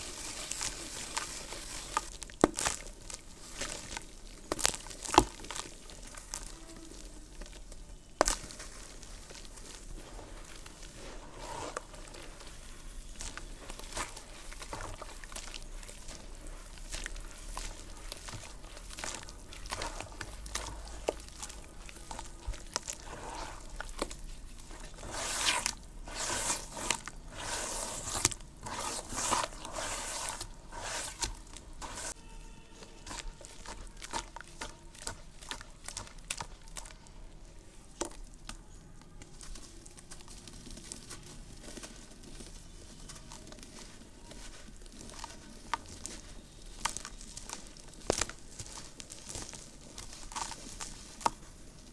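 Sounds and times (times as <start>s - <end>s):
dirt crumbling and crunching: 0.0s - 51.9s.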